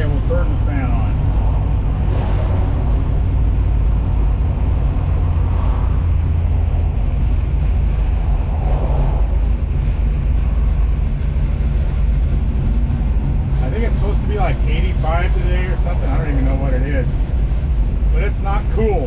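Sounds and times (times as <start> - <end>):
car engine droning: 0.0 - 19.0
road noise: 0.0 - 19.0.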